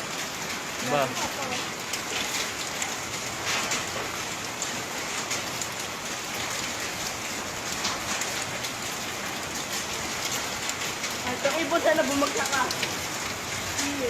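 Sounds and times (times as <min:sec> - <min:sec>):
rain drops pattering: 0:00.0 - 0:14.0.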